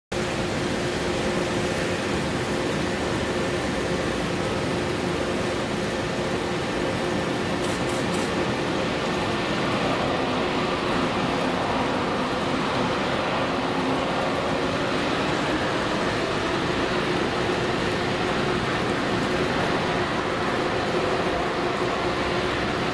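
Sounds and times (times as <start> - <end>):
distant jet engine rush: 0.1 - 22.9.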